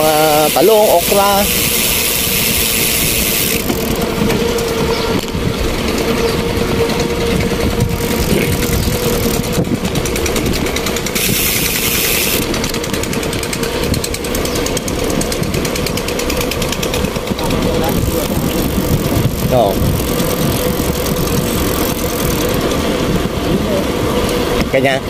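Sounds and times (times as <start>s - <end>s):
motorcycle engine cruising: 0.0s - 25.0s
wind buffeting microphone: 0.0s - 25.0s.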